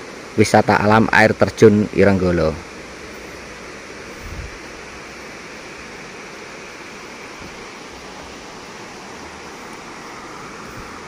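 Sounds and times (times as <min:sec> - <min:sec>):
distant waterfall rushing: 0:00.0 - 0:11.0.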